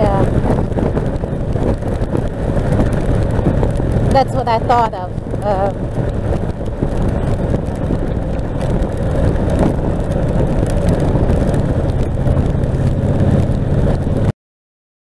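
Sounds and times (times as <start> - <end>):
motorcycle engine: 0.0 - 14.3
tyres on wet road: 0.0 - 14.3
wind noise: 0.0 - 14.3.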